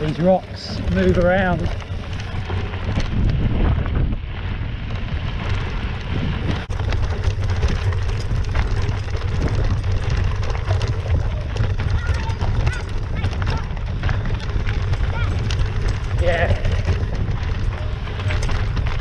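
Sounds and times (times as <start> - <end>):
bike rattling: 0.0 - 19.0
tyres crunching on rocky trail: 0.0 - 19.0
wind rumble on microphone: 0.0 - 19.0.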